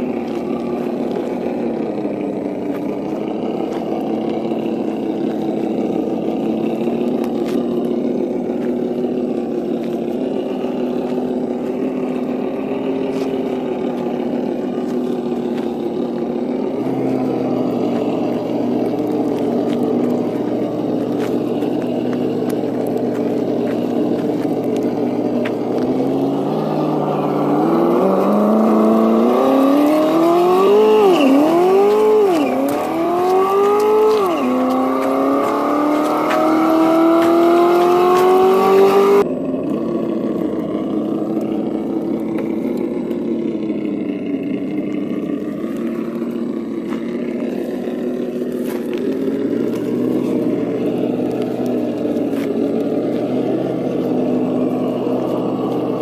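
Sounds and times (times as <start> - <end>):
simulated truck engine through speaker: 0.0 - 56.0.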